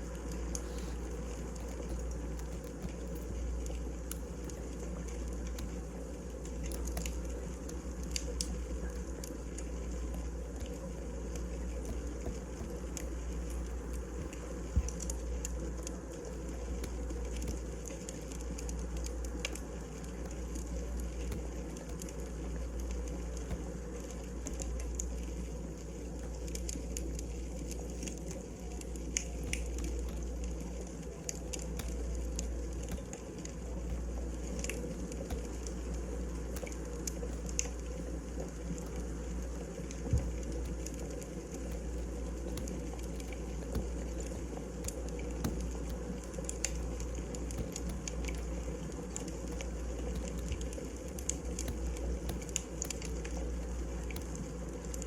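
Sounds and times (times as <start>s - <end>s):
fireplace crackling: 0.0s - 55.0s.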